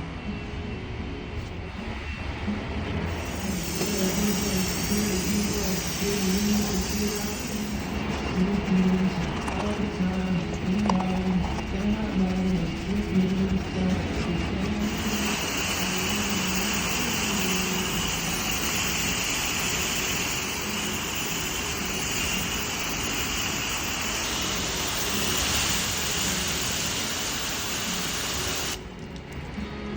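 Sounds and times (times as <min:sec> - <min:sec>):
car wash equipment rushing: 0:03.0 - 0:28.9.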